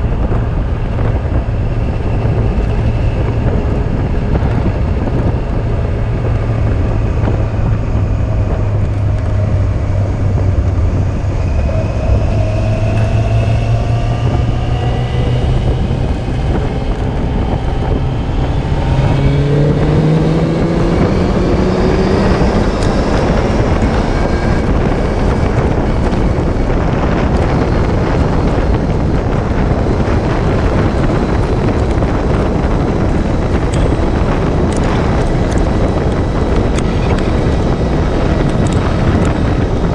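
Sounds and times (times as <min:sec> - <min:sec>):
motorcycle engine accelerating: 0:00.0 - 0:39.9
wind rushing over microphone: 0:00.0 - 0:39.9.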